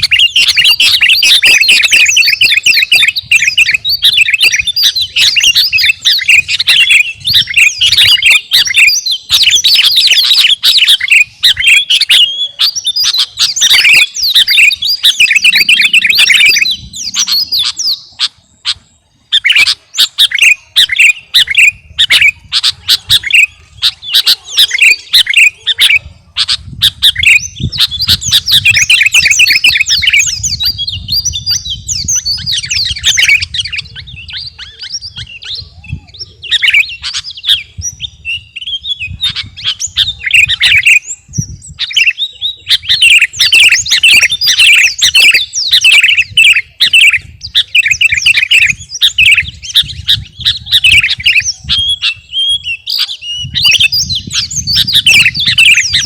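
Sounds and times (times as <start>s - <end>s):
bulbul singing bright chirps: 0.0s - 56.0s.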